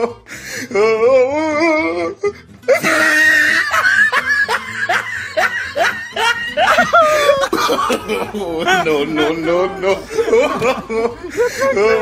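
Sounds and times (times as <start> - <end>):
wobbling wailing cry: 0.7 - 12.0.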